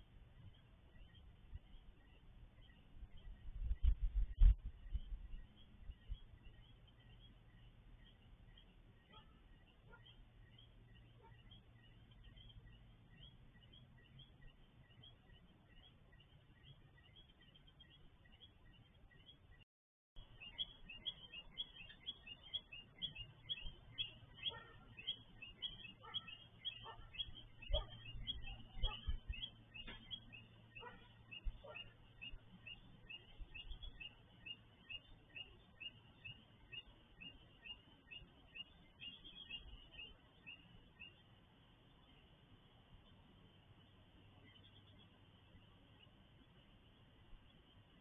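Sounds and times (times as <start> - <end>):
low steady hum: 0.0 - 19.6, 20.2 - 48.0.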